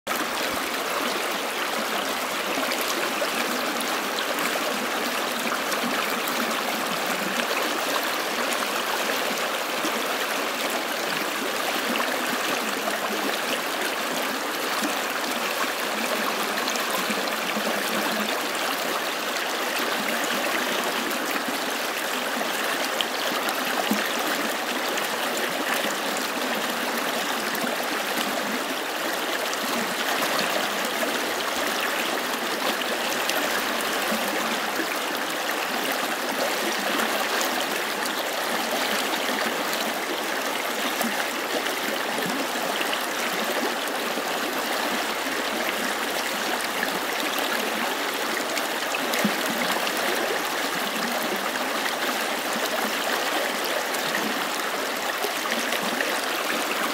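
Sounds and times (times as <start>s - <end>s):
stream babbling over rocks: 0.1s - 56.9s.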